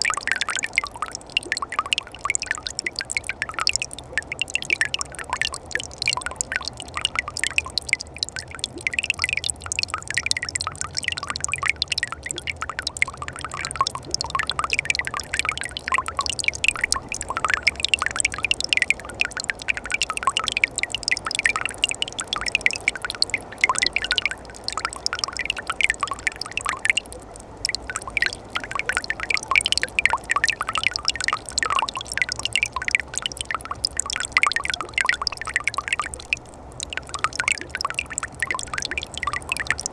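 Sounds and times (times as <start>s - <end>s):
small water drips: 0.0s - 39.9s
steady water rush: 0.0s - 39.9s
water gurgling over rocks: 0.0s - 39.9s.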